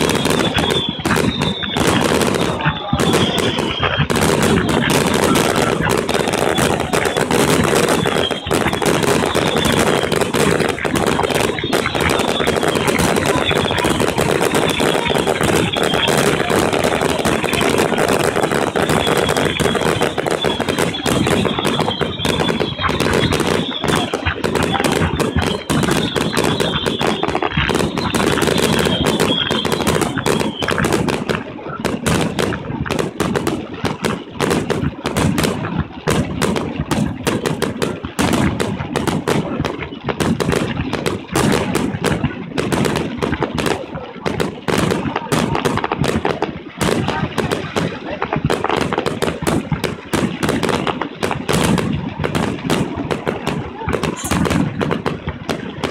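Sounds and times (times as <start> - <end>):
fireworks shells bursting: 0.0 - 55.9.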